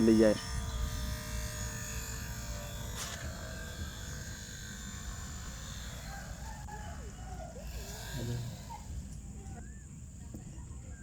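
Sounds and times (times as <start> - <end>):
small fan motor humming: 0.0 - 10.9.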